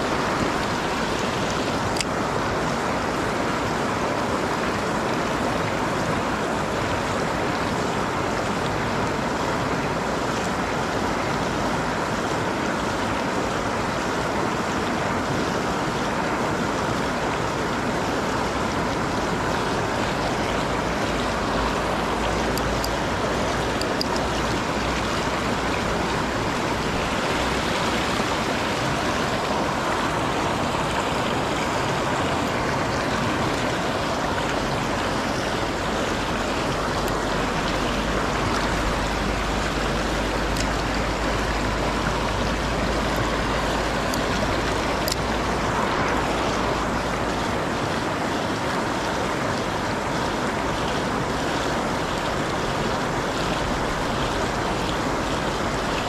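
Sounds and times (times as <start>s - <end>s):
river water rushing over ledge: 0.0s - 56.0s.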